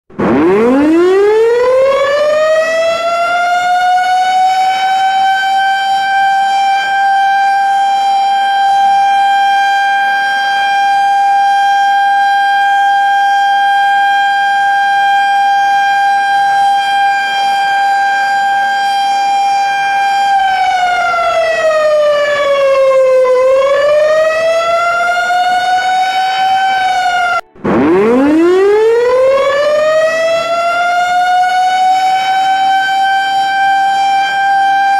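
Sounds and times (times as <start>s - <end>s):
civil defense siren wailing: 0.1s - 34.9s.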